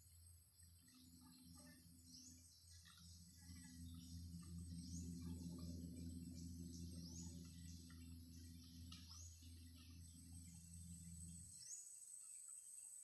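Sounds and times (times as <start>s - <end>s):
faint bird chirps: 0.0s - 13.0s
steady low hum: 0.0s - 13.0s.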